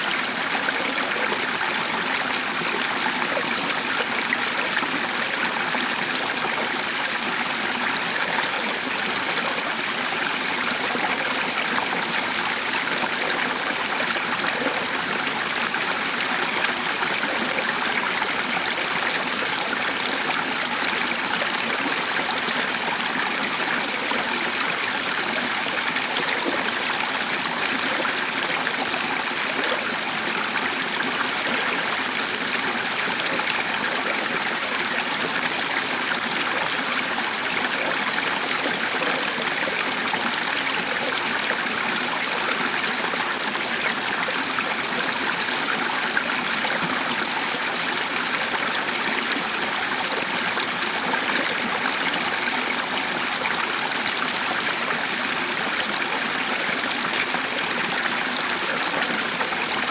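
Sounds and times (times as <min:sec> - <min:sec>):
stream of flowing water: 0:00.0 - 0:59.9.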